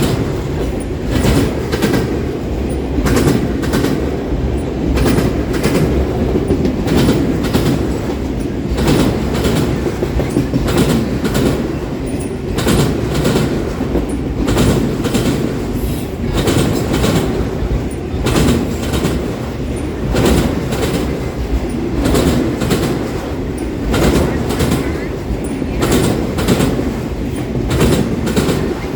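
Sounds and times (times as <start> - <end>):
low train rumble: 0.0 - 28.9
train wheels clicking over joints: 0.0 - 28.9.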